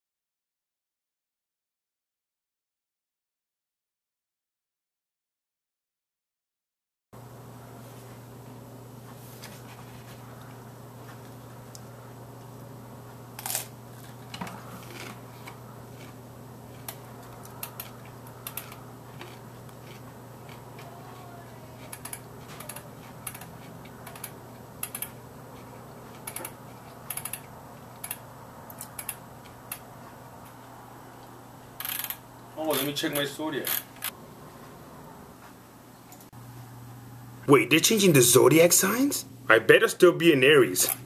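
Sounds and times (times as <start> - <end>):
steady low hum: 7.2 - 41.0.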